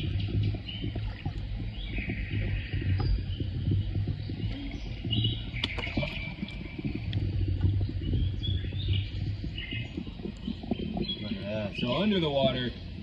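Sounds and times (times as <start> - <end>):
birds chirping: 0.0 - 13.0
water sloshing and rumbling: 0.0 - 13.0.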